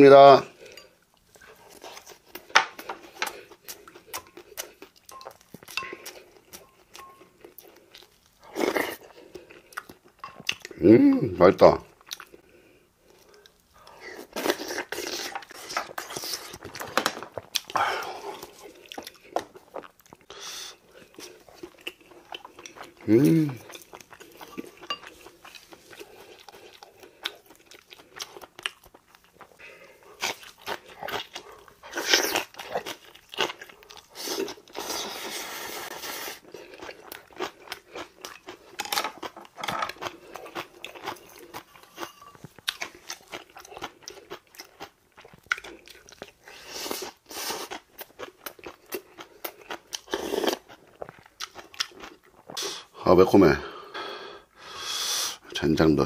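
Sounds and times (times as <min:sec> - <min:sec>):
person chewing crunchy food: 0:00.5 - 0:10.8, 0:11.8 - 0:52.9.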